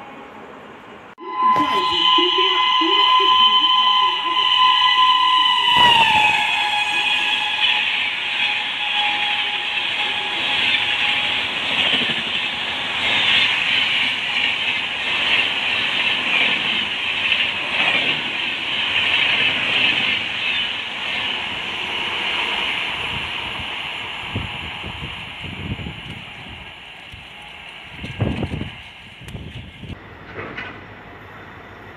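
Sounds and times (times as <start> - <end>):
train wheels rushing on rails: 1.8 - 31.9.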